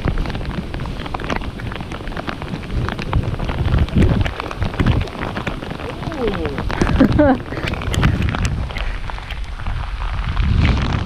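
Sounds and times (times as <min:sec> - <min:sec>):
heavy rain: 0:00.0 - 0:11.0
low gusty rumble: 0:00.0 - 0:11.0.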